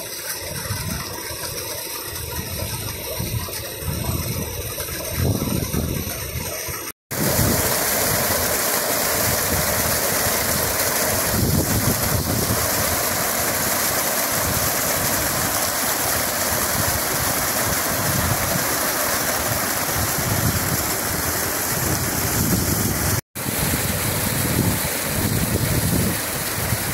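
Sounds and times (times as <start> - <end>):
water gushing from pipe: 0.0 - 26.9.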